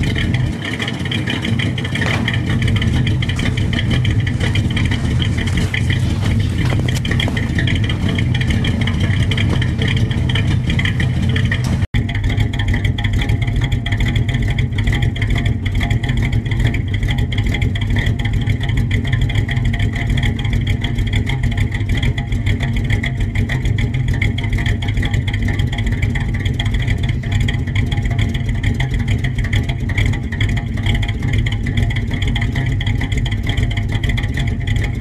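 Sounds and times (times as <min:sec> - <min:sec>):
pickup engine idling: 0:00.0 - 0:35.0.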